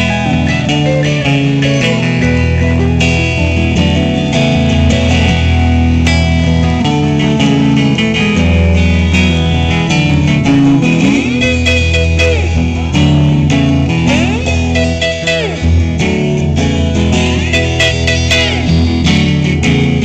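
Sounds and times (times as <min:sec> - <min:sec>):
electric guitars: 0:00.0 - 0:20.0
live band jamming: 0:00.0 - 0:20.0.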